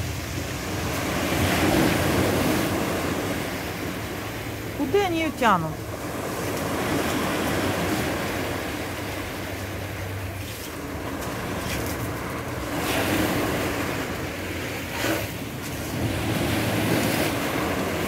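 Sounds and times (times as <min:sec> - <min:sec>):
waves breaking on pebble beach: 0:00.0 - 0:05.2, 0:05.8 - 0:18.0.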